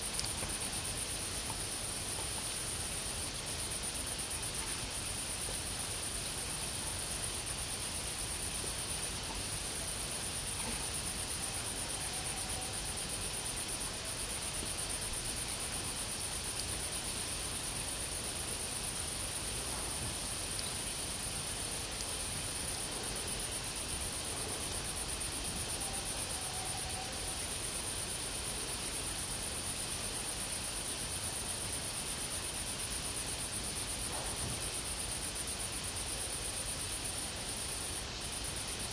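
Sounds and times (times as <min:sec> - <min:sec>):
crickets chirring: 0:00.0 - 0:38.9
low background hiss: 0:00.0 - 0:38.9.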